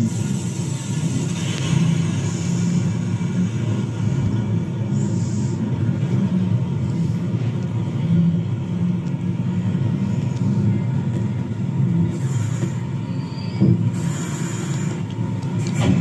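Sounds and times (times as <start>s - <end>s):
train rolling rumble: 0.0s - 16.0s.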